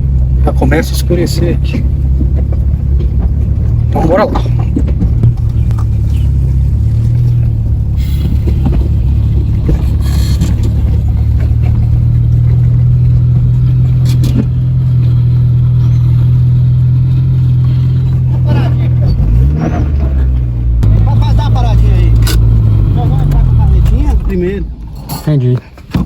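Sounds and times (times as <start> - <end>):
car engine running: 0.0 - 26.0
knocks and rattles: 0.0 - 26.0.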